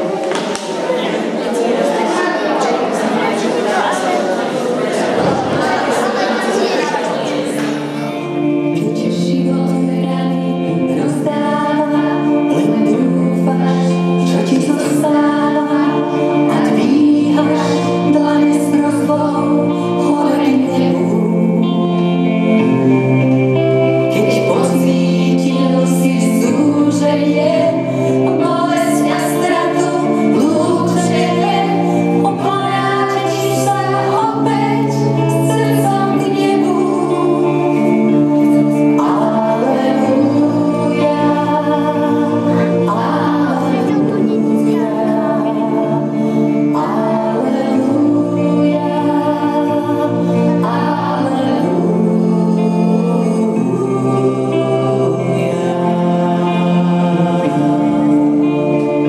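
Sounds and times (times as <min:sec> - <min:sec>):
girls singing together: 0:00.0 - 0:59.0
low instrumental chords: 0:04.6 - 0:59.0.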